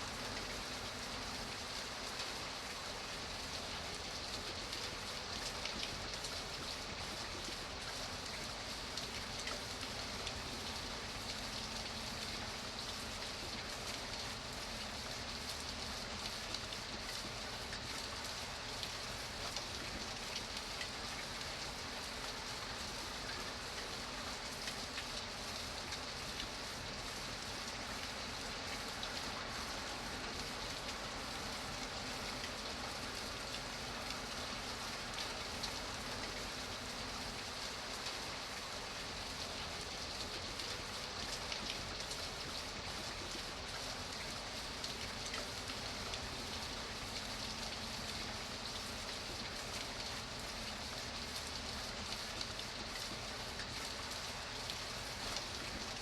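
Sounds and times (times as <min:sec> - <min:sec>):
steady rain falling: 0:00.0 - 0:56.0
raindrops ticking and pattering: 0:00.1 - 0:56.0.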